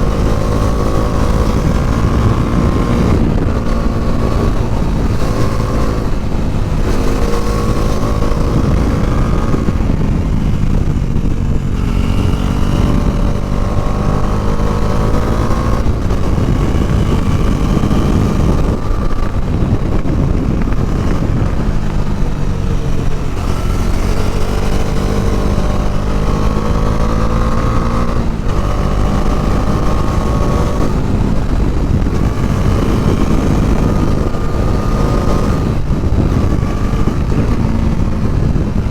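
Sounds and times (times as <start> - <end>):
motorcycle engine revving: 0.0 - 38.9
wind and road rush: 0.0 - 38.9.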